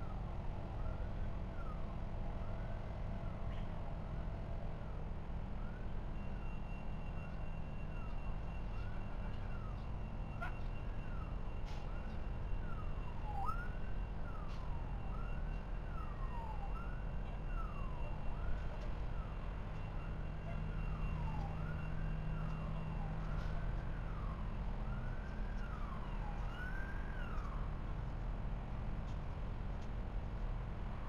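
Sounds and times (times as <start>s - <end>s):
emergency siren wailing: 0.0s - 28.1s.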